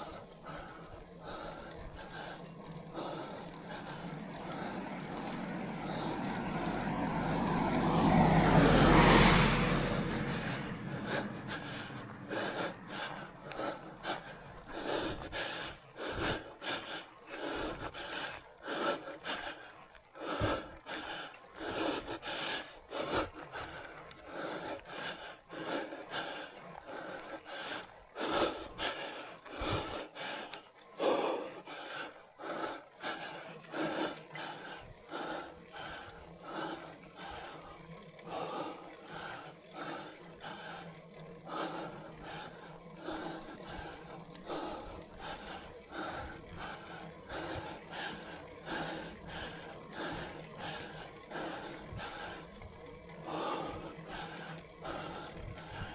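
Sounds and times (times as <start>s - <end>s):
heavy rhythmic breathing: 0.0s - 55.9s
vehicle passing: 0.0s - 55.9s.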